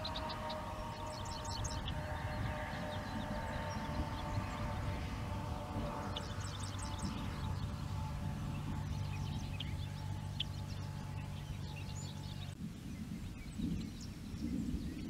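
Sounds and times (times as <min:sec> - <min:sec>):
birds chirping: 0:00.0 - 0:15.0
low steady hum: 0:00.0 - 0:15.0
low uneven rumble: 0:00.0 - 0:15.0.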